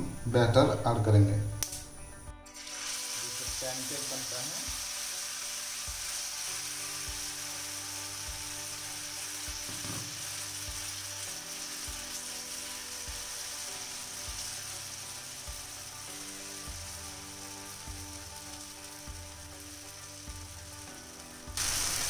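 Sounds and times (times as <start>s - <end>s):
soft background music with beat: 0.0s - 22.0s
batter sizzling in oil: 2.5s - 22.0s.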